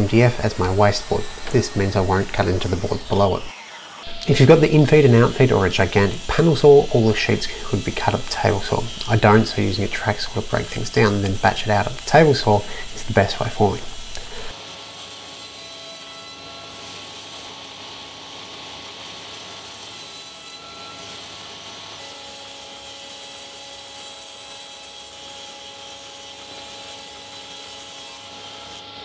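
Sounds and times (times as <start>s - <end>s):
table saw running: 0.0s - 29.0s.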